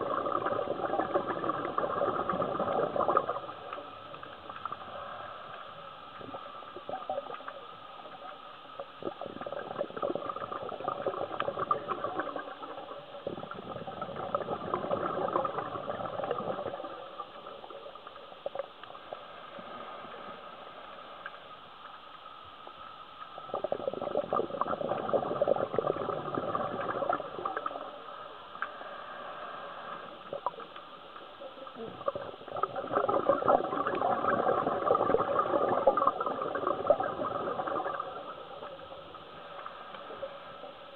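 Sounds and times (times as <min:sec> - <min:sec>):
underwater diver bubbles: 0:00.0 - 0:40.9.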